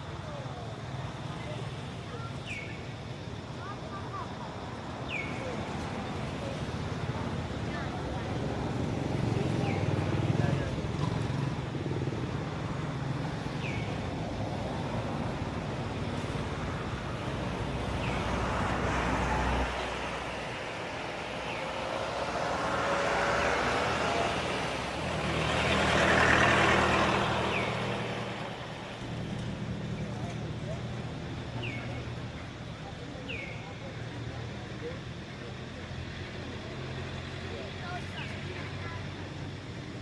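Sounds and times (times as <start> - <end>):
motor vehicles passing: 0.0 - 40.0.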